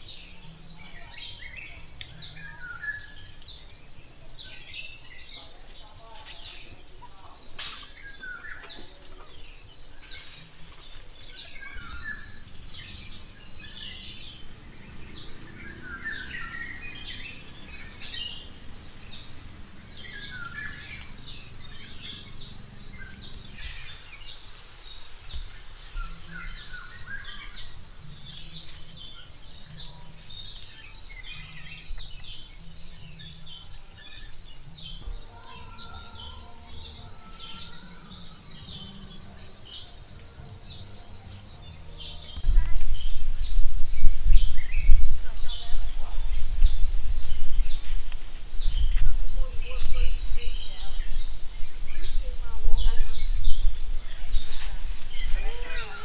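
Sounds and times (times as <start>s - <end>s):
birds chirping: 0.0s - 56.0s
insects trilling: 0.0s - 56.0s.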